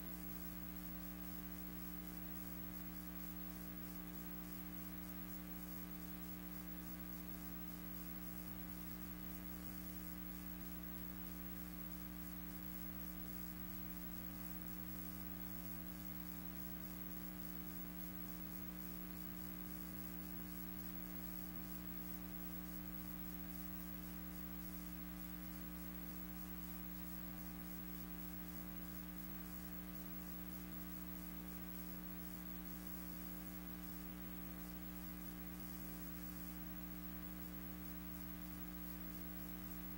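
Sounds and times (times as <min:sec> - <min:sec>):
electrical mains hum with hiss: 0:00.0 - 0:39.9.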